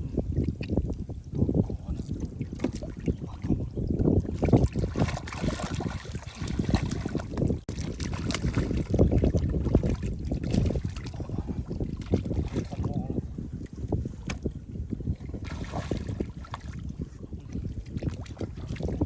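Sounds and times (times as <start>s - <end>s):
shallow water sloshing: 0.0s - 19.0s
wind on microphone: 0.0s - 19.0s.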